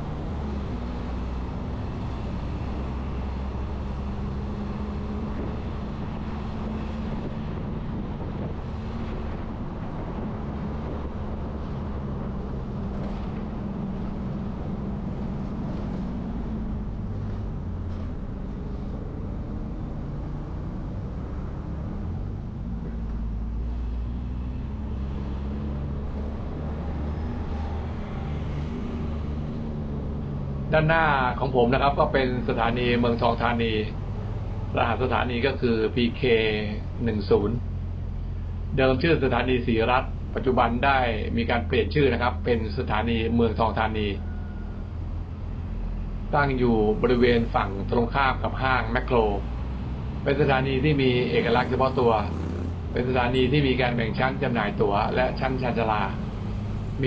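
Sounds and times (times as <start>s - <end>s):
engine hum of traffic: 0.0s - 57.0s
tyres rushing on road: 0.0s - 57.0s.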